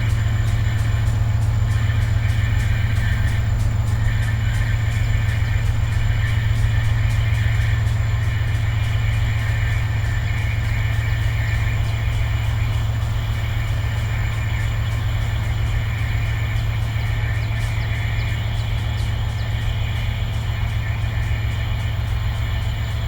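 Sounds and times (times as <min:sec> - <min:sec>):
locomotive low drone: 0:00.0 - 0:23.0.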